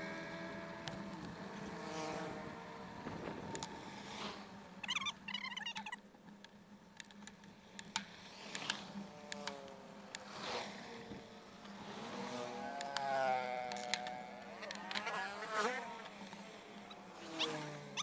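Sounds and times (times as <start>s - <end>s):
small motorcycle engines buzzing: 0.0s - 18.0s.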